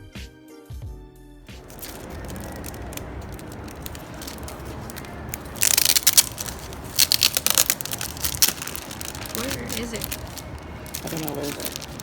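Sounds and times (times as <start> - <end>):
handling noise: 1.5 - 12.0
plastic shrink wrap crinkling: 1.5 - 12.0.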